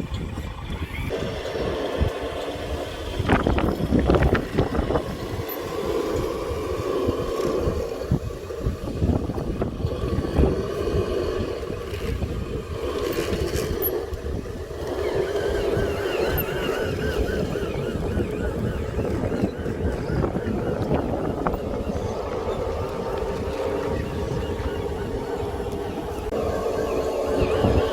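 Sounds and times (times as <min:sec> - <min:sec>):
wind noise on microphone: 0:00.0 - 0:27.9
model machinery motor whine: 0:00.6 - 0:27.9.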